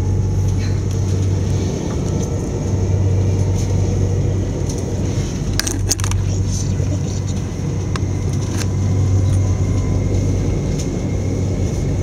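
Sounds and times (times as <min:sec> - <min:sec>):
electric train running inside carriage: 0:00.0 - 0:12.0.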